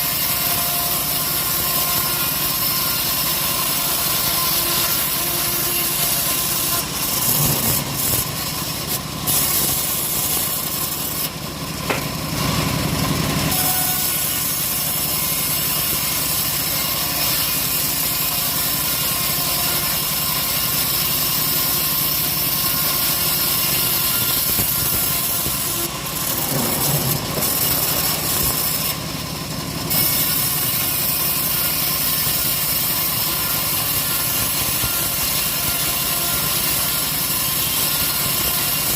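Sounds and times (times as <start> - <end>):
engine running under load: 0.0 - 38.9
saw blade rasping through wood: 0.0 - 38.9.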